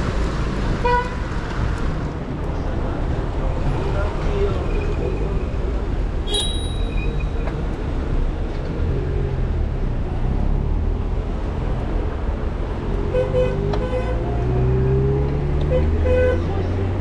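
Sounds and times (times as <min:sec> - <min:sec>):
road rumble: 0:00.0 - 0:17.0.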